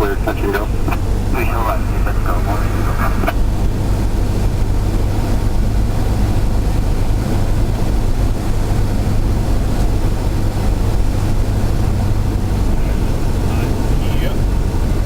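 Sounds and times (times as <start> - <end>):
propeller engine droning: 0.0 - 15.0
rushing airflow: 0.0 - 15.0.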